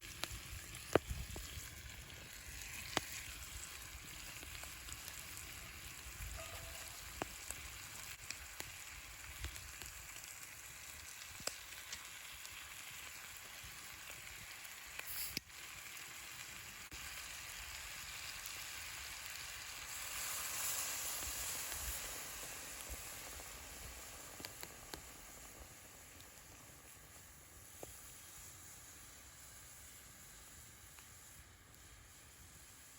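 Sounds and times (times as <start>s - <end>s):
food sizzling in a pan: 0.0s - 32.9s.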